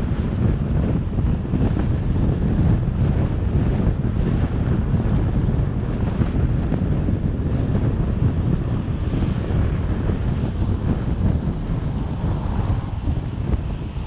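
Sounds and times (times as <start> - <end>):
vehicle road noise: 0.0 - 14.0
wind rushing over microphone: 0.0 - 14.0.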